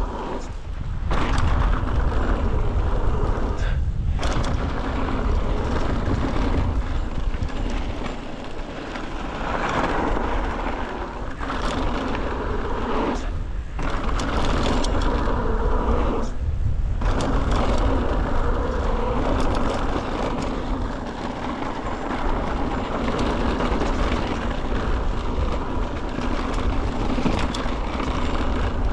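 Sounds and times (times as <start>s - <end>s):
bike clicks and rattles: 0.0s - 28.9s
tyres rolling on dirt: 0.0s - 28.9s
wind buffeting microphone: 0.0s - 28.9s.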